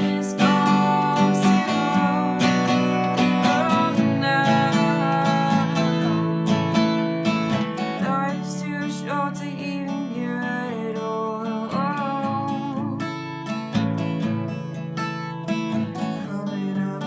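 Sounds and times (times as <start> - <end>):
woman singing: 0.0 - 7.2, 7.8 - 13.6, 16.0 - 17.0
strummed acoustic guitar: 0.0 - 17.0.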